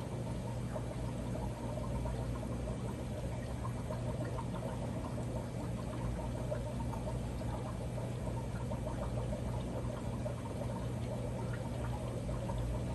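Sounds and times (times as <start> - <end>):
low steady hum: 0.0 - 12.9
water trickling and bubbling: 0.0 - 12.9.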